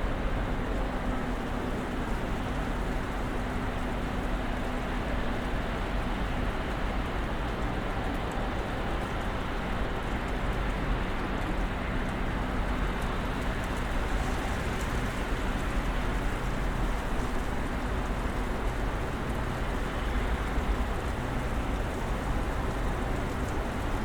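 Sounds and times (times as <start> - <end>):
snowstorm rushing wind: 0.0 - 24.0.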